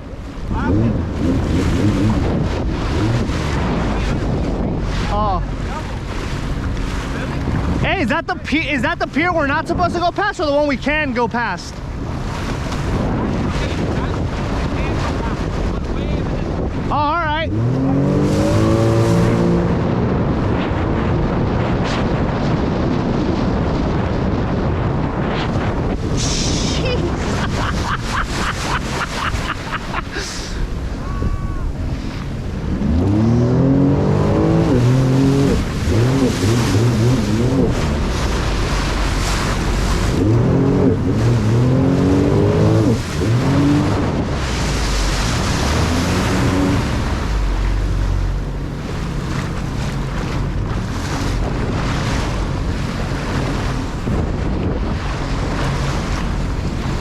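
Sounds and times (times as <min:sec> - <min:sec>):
jet ski engine running: 0:00.0 - 0:57.0
rushing wind: 0:00.0 - 0:57.0.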